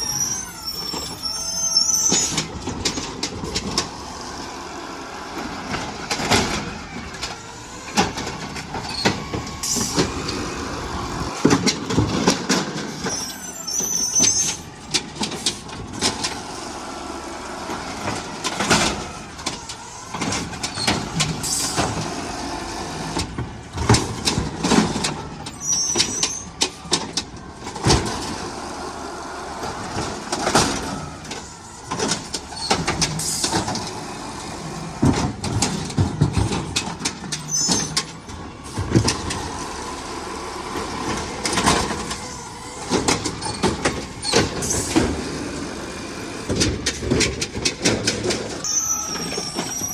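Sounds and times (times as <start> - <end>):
garbage truck bangs and clanks: 0.0 - 49.9
truck engine and hydraulics: 0.0 - 49.9.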